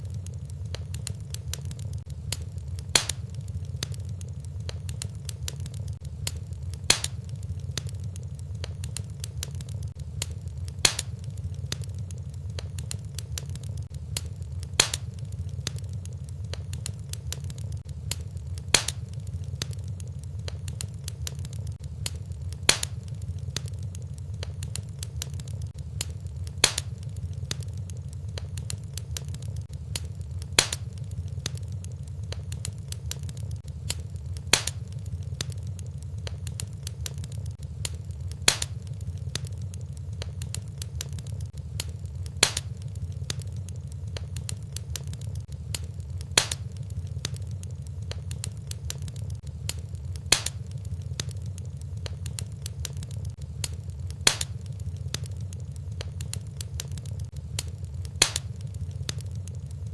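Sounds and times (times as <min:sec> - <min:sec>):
low steady rumble: 0:00.0 - 0:59.9
sharp fire pops: 0:00.0 - 0:59.9
wood fire crackling: 0:00.0 - 0:59.9.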